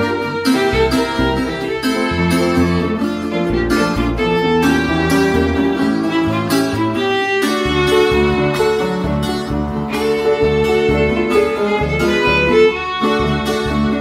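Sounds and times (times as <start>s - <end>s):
piano: 0.0s - 14.0s
strummed tiple: 0.0s - 14.0s
violin melody: 0.0s - 14.0s.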